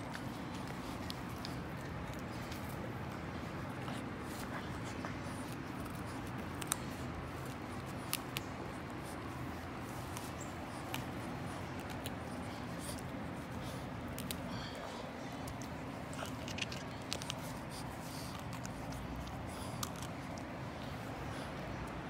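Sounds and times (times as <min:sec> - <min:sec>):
low background hum: 0:00.0 - 0:22.0
dog chewing wetly: 0:00.1 - 0:22.0.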